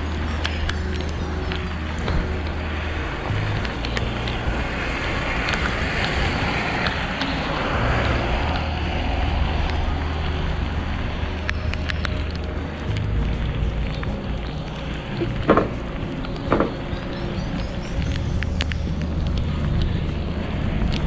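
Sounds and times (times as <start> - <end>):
tyres hissing on wet road: 0.0 - 21.0
wind rumbling on microphone: 0.0 - 21.0.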